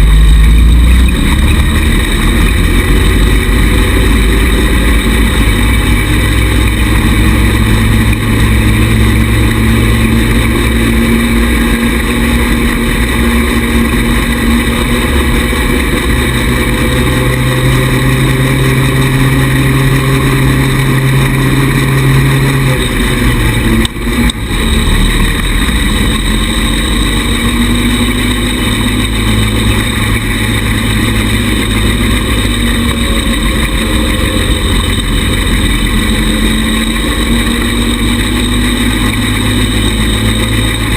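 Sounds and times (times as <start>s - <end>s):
buggy engine running: 0.0s - 40.9s.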